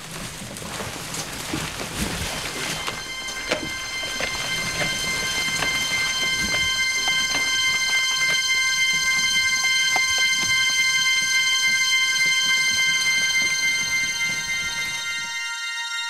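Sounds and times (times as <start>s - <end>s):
crackles and clicks: 0.0s - 15.5s
sustained high drone: 2.6s - 16.0s.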